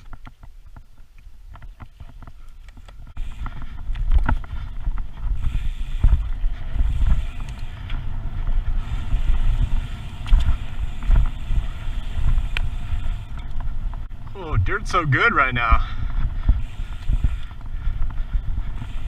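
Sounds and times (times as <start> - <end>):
bike clicks and rattles: 0.0 - 19.0
tyre noise on dirt: 0.0 - 19.0
wind buffeting microphone: 0.0 - 19.0.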